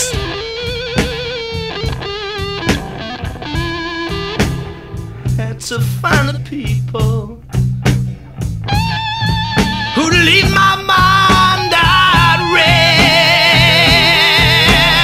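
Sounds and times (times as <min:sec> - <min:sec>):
bass: 0:00.0 - 0:15.0
electric guitar lead: 0:00.0 - 0:15.0
steady drum beat: 0:00.0 - 0:15.0.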